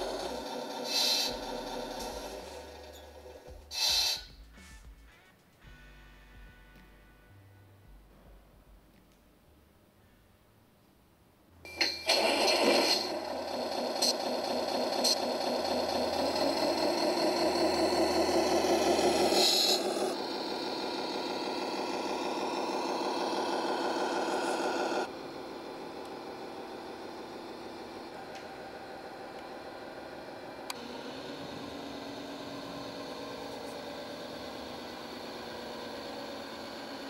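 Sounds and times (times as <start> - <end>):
electronic engine sound: 0.0 - 4.4, 11.7 - 37.0.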